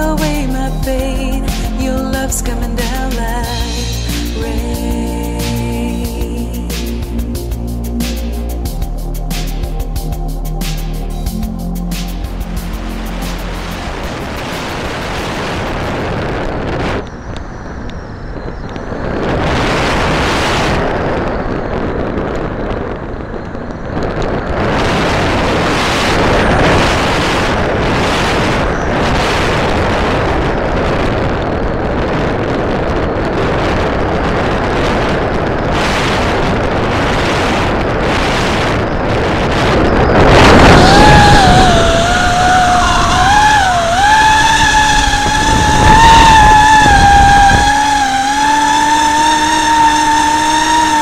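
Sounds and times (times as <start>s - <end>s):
wind rushing over microphone: 0.0s - 51.0s.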